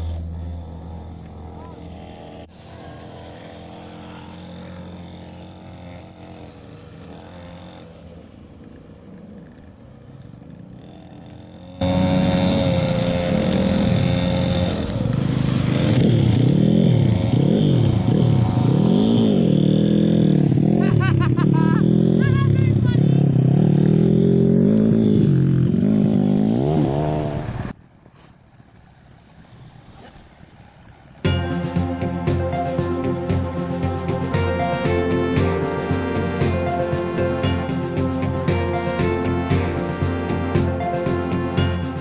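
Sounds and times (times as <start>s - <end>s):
engine revving up and down: 0.0s - 27.8s, 31.3s - 42.0s
off-road engines running: 0.0s - 42.0s.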